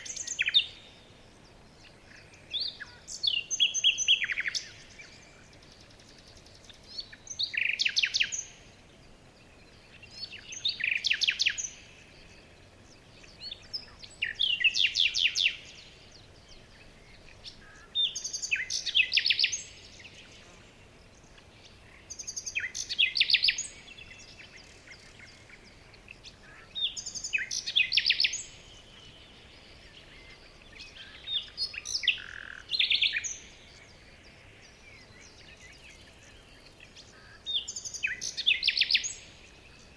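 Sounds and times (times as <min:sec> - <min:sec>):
faint steady hiss: 0:00.0 - 0:39.9
songbird singing: 0:00.0 - 0:39.9.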